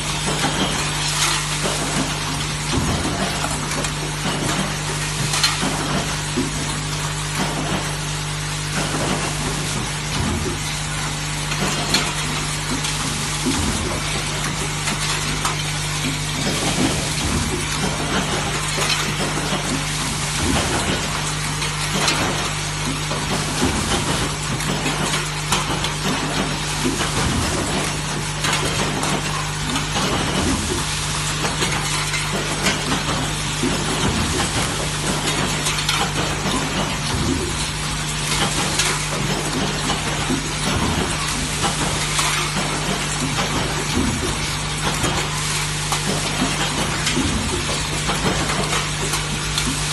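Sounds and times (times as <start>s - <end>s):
welding crackling and sizzling: 0.0s - 49.9s
welding machine electrical hum: 0.0s - 49.9s.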